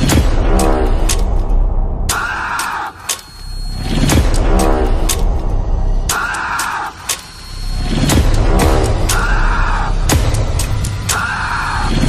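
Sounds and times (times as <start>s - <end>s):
music with heavy bass and beat: 0.0s - 12.0s.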